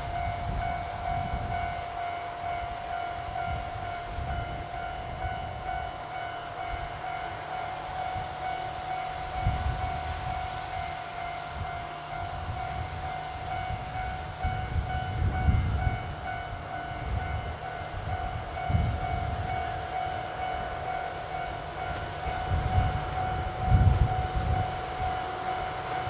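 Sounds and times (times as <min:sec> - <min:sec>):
diesel train whine and rumble: 0:00.0 - 0:26.0.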